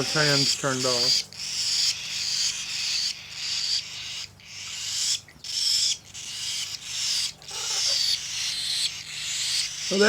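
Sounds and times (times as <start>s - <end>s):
baby birds begging calls: 0.0s - 10.0s.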